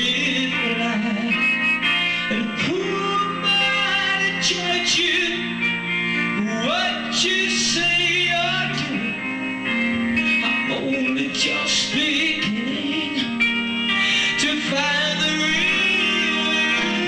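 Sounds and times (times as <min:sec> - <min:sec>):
man singing long notes: 0:00.0 - 0:09.3, 0:10.3 - 0:17.0
live band playing: 0:00.0 - 0:17.0.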